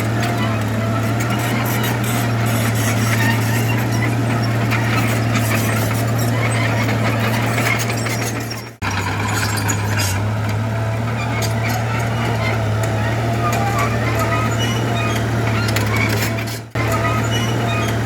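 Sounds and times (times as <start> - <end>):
diesel engine under load: 0.0 - 18.0.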